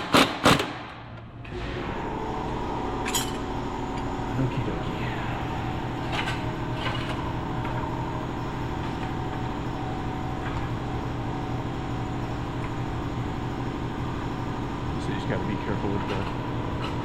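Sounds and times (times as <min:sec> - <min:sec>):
shop machinery humming: 0:00.0 - 0:17.0.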